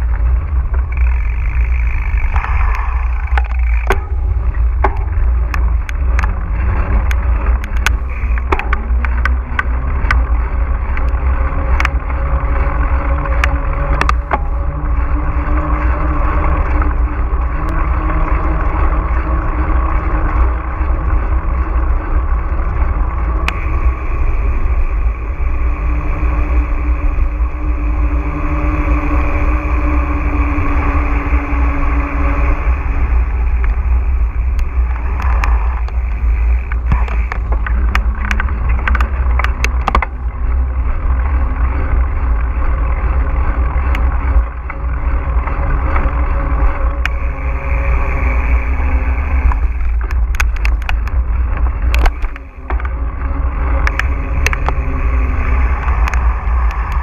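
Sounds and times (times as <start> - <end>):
sharp clicks and rattles: 0.0 - 57.0
wind and motion rumble: 0.0 - 57.0.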